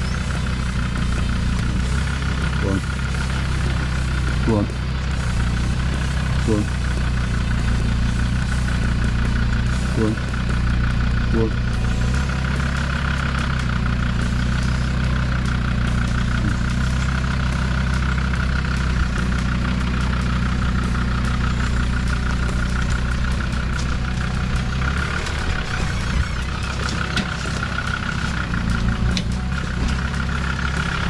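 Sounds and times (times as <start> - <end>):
engine running at low revs: 0.0 - 31.0
sharp ticks: 0.0 - 31.0.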